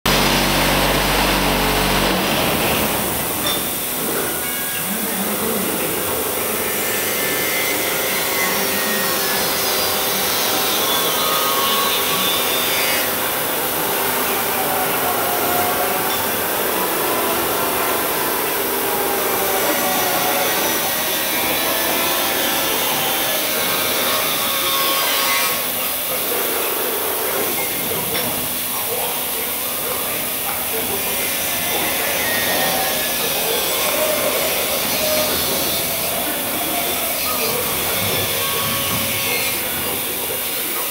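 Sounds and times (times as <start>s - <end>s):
faint wavering machine whines: 0.2s - 40.9s.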